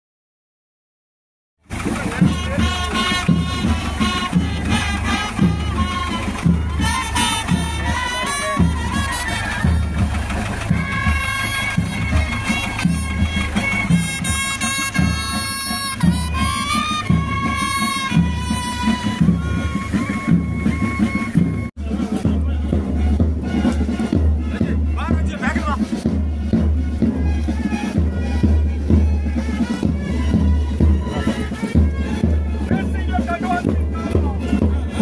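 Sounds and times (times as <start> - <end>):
steady drum beat: 1.6 - 35.0
wind melody: 1.6 - 35.0.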